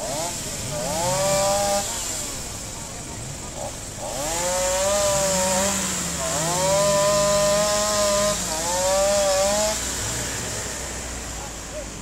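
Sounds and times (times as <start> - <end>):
chainsaw cutting wood: 0.0 - 11.4.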